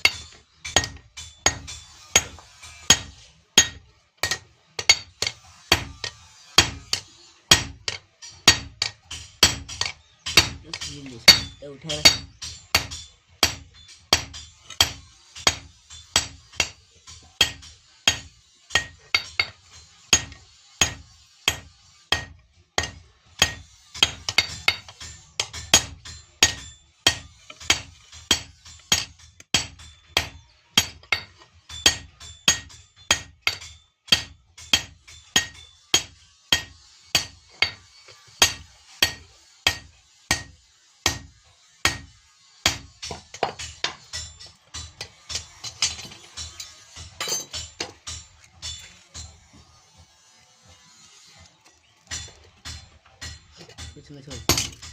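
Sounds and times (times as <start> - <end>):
hammer striking iron on anvil: 0.0 - 50.1, 52.1 - 54.9.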